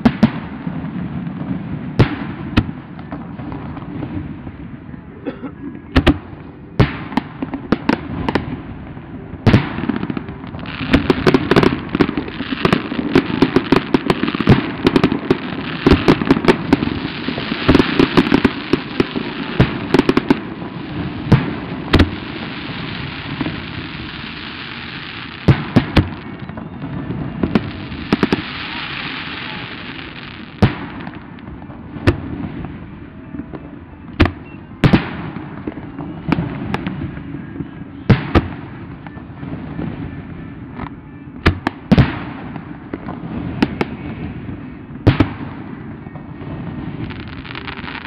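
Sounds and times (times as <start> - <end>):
fireworks bursting with booms: 0.0 - 5.1, 5.9 - 48.0
fireworks crackle: 0.0 - 5.3, 5.9 - 48.0.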